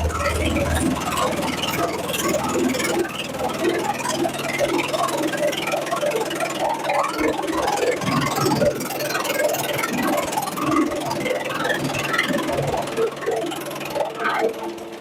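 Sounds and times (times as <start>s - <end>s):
shredder machine humming: 0.0s - 15.0s.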